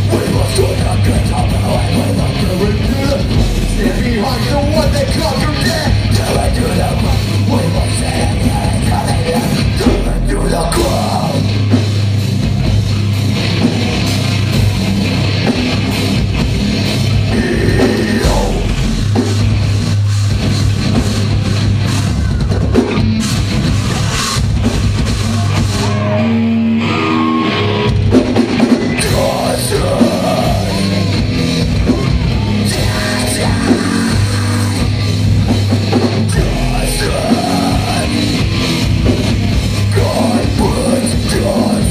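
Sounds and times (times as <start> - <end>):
drum kit pounding: 0.0 - 26.2, 27.9 - 41.9
distorted electric guitars: 0.0 - 41.9.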